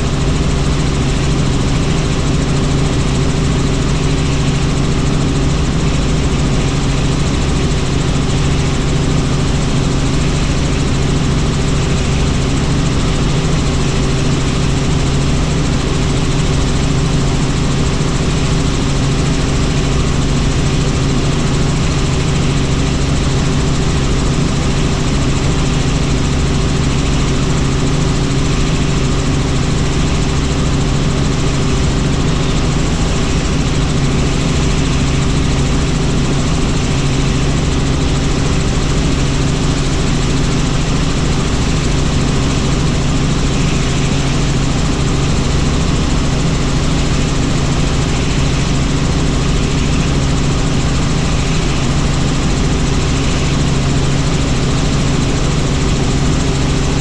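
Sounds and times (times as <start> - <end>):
helicopter rotor and turbine drone: 0.0 - 57.0.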